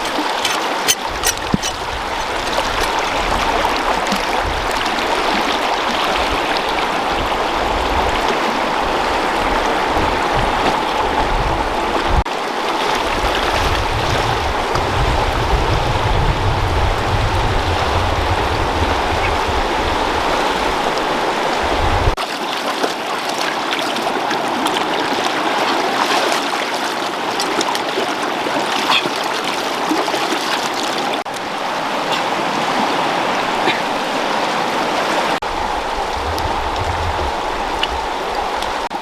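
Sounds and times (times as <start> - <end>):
running water: 0.0 - 39.0.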